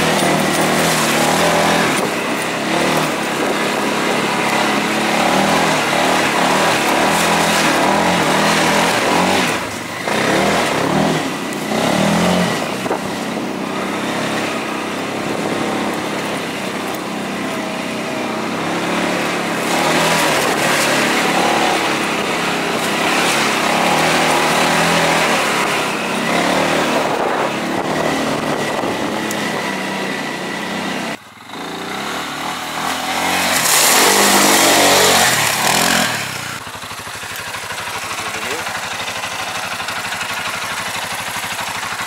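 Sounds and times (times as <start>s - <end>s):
off-road vehicle engine running: 0.0s - 42.0s.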